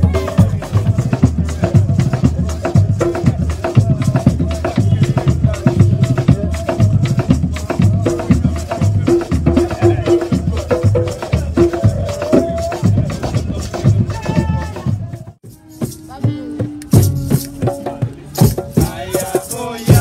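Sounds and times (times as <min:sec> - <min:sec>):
hand drums beating: 0:00.0 - 0:20.0.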